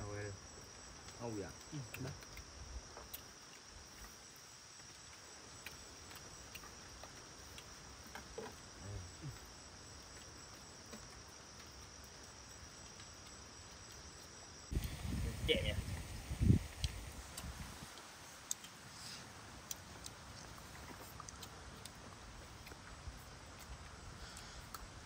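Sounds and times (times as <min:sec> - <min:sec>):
crickets droning: 0:00.0 - 0:25.0.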